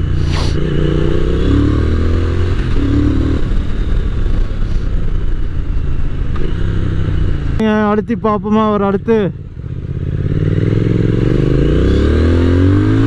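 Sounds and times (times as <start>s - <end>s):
motorcycle engine running: 0.0s - 13.0s
road and wind noise: 0.0s - 13.0s.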